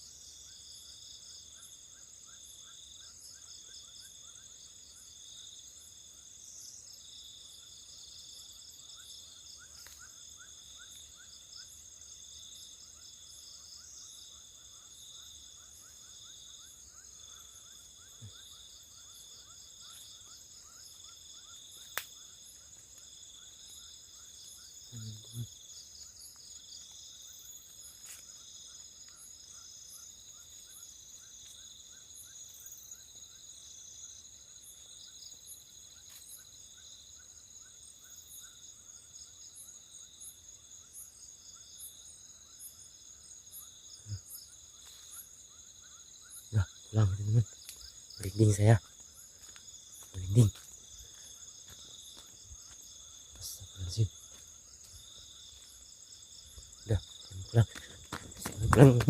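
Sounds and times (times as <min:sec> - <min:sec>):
crickets trilling: 0:00.0 - 0:59.0
lower insect chirps: 0:00.0 - 0:59.0.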